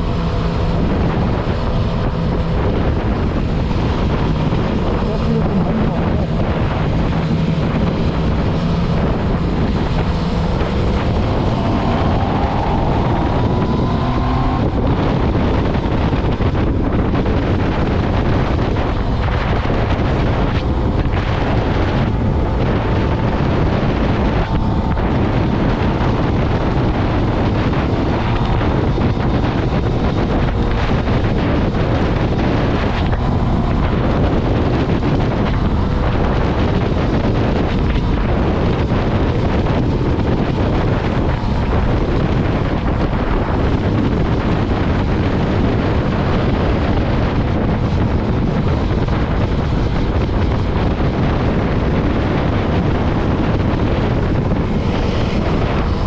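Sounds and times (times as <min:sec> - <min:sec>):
motorcycle engine: 0:00.0 - 0:56.0
wind noise on microphone: 0:00.0 - 0:56.0.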